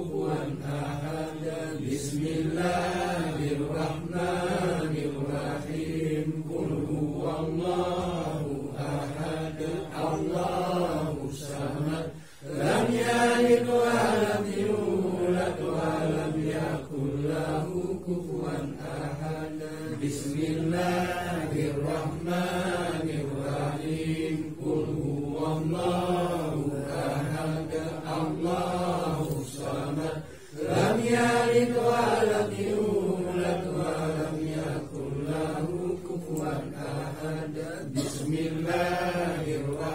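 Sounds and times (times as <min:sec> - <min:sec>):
men chanting prayers: 0:00.0 - 0:39.9.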